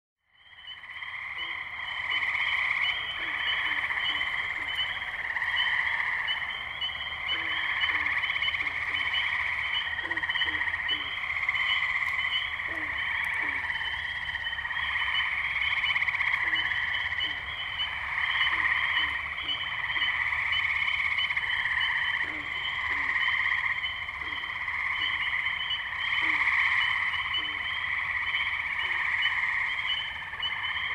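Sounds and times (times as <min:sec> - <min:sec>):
tree frogs trilling: 0:00.2 - 0:30.9.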